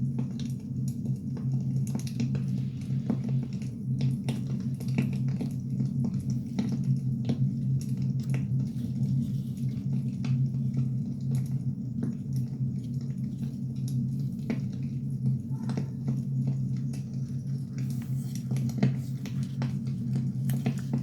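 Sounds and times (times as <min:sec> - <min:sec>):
steady low rumble: 0:00.6 - 0:21.0.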